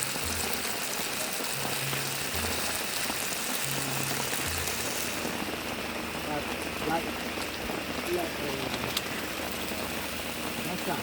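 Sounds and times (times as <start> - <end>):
hiss of running water: 0.0 - 11.0.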